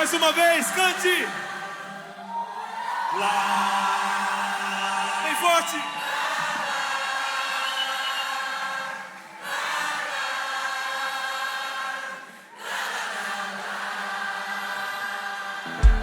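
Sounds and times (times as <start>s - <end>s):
congregation and choir singing: 0.0s - 16.0s.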